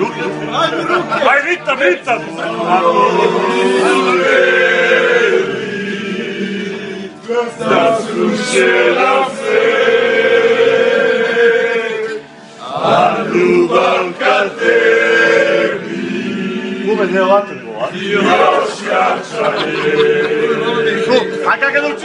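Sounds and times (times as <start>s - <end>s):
men chanting a song: 0.0s - 22.0s.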